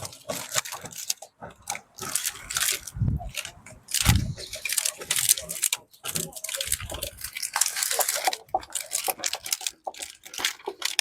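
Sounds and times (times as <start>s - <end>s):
small objects clattering: 0.0s - 11.0s.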